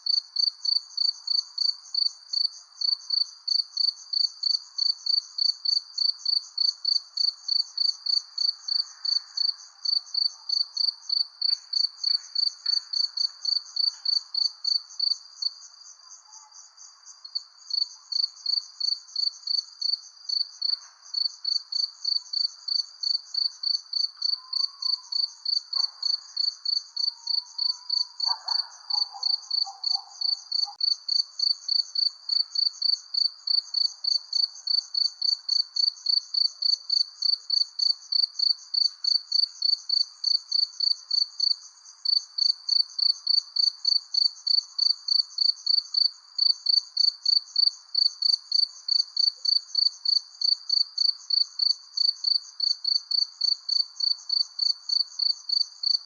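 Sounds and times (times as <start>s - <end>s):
cricket chirping: 0.0s - 56.0s
faint night ambience: 0.0s - 56.0s.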